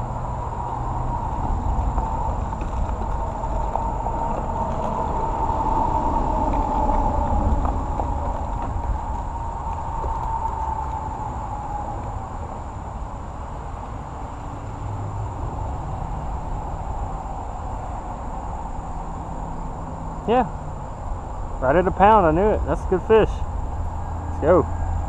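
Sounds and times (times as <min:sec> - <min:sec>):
vehicle passing: 0:00.0 - 0:25.0.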